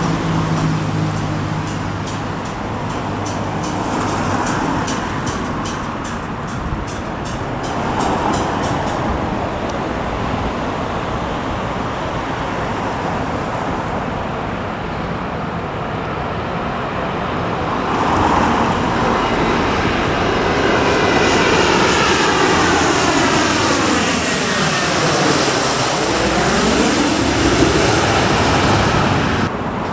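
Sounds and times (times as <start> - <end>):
high turbine whine: 0.0 - 29.9
turboprop engines droning: 0.0 - 29.9.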